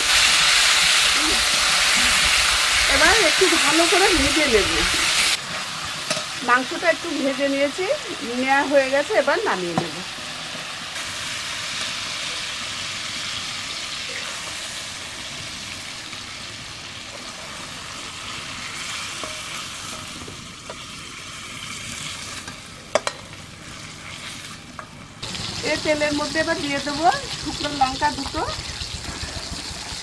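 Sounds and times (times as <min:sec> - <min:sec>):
hot oil sizzling: 0:00.0 - 0:30.0.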